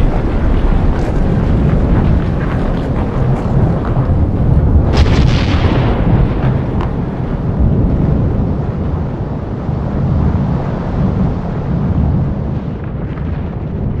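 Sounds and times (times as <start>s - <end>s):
deep volcanic rumbling: 0.0s - 14.0s.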